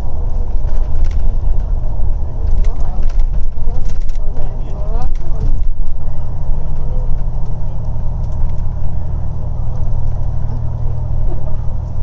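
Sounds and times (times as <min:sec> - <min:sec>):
bus engine drone: 0:00.0 - 0:12.0
road rumble: 0:00.0 - 0:12.0.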